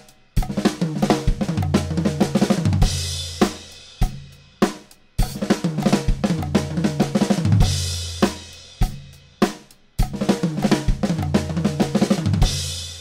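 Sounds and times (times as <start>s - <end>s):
fast snare drum fill: 0.0s - 13.0s.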